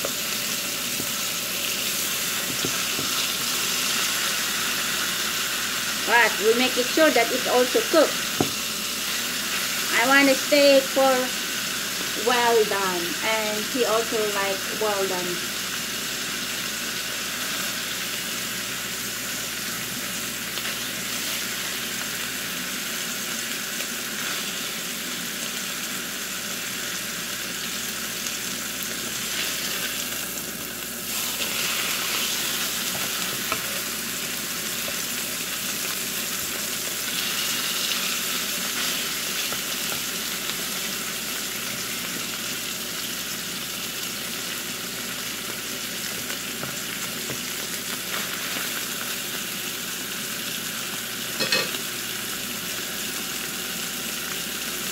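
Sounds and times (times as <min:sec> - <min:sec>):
steak sizzling in a pan: 0:00.0 - 0:54.9.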